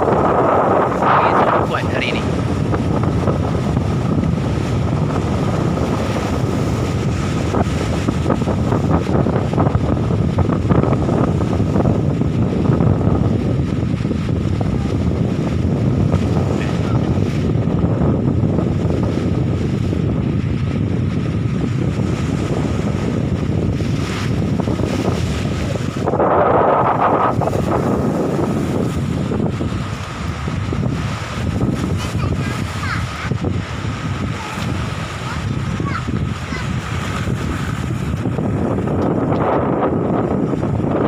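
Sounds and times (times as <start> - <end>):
waves washing against rocks: 0.0 - 41.0
wind buffeting microphone: 0.0 - 41.0.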